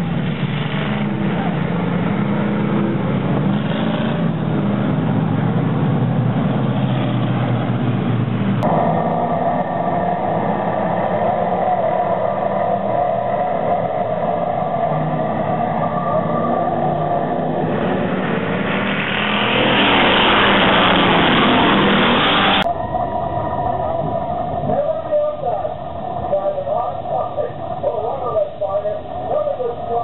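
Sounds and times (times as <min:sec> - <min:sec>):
stock car engines passing: 0:00.0 - 0:30.0.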